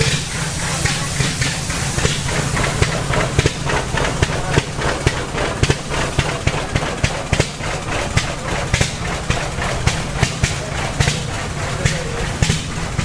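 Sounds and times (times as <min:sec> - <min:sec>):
antique engines humming: 0:00.0 - 0:13.0
sharp exhaust pops: 0:00.0 - 0:13.0.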